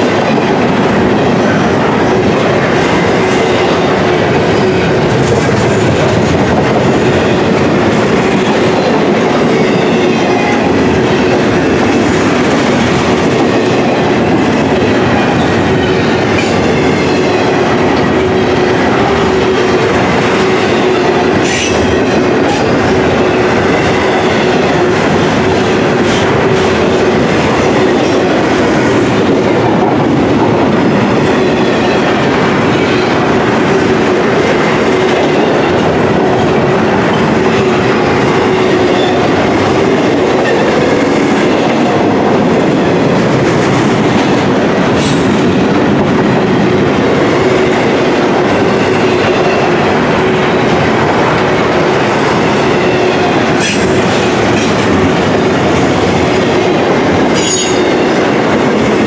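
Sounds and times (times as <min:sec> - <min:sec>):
steel train wheels rumbling on rail: 0:00.0 - 0:59.0.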